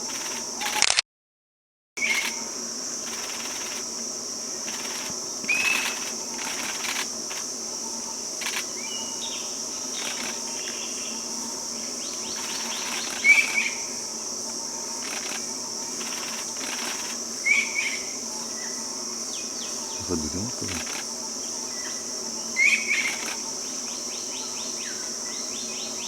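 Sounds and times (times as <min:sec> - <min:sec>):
insects droning: 0:00.0 - 0:00.8, 0:02.0 - 0:26.0.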